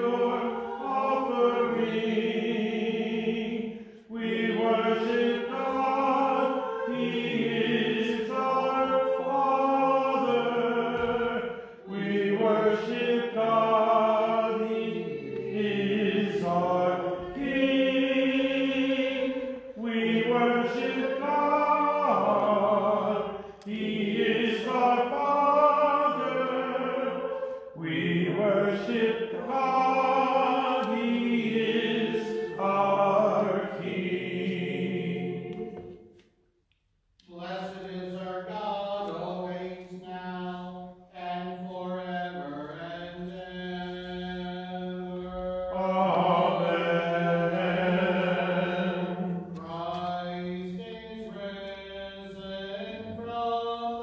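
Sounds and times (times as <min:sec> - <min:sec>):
voices chanting in harmony: 0:00.0 - 0:36.0, 0:37.3 - 0:54.0.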